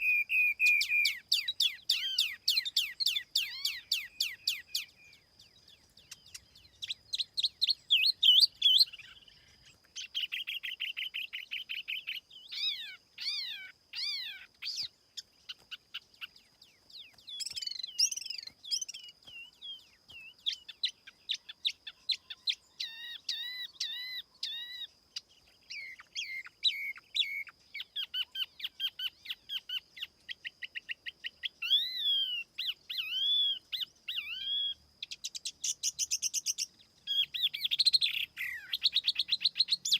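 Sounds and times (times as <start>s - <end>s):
songbird chirps and whistles: 0.0s - 39.9s.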